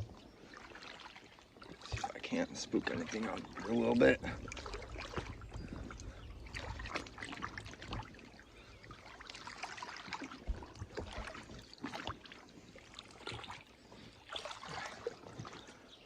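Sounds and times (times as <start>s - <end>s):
water splashing around wading legs: 0.0s - 16.0s.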